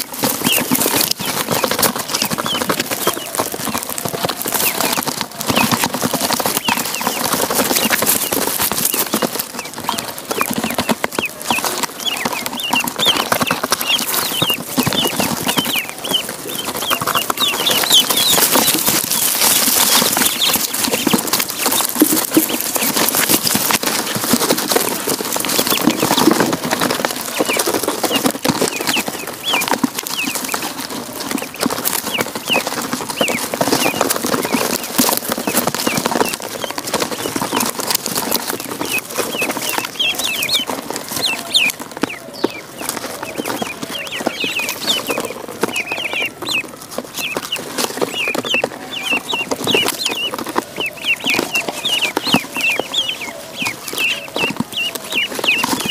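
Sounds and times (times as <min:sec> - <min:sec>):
beaks pecking grain from dish: 0:00.0 - 0:55.9
ducklings peeping: 0:00.0 - 0:55.9.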